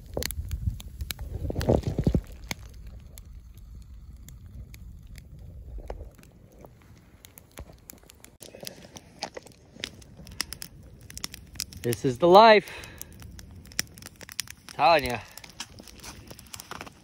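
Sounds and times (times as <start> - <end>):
low rumble: 0.0 - 16.8
campfire crackling: 0.0 - 17.0.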